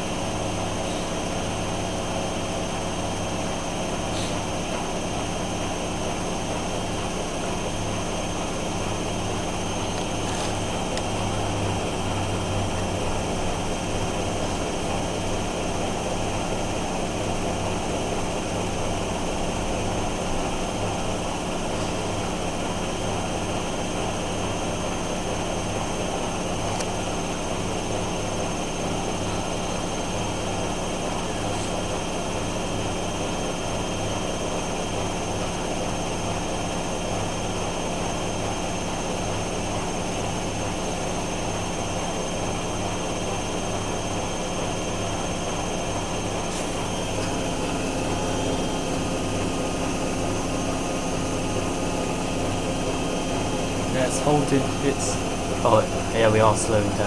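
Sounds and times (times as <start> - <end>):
washing machine spin hum: 0.0 - 57.0.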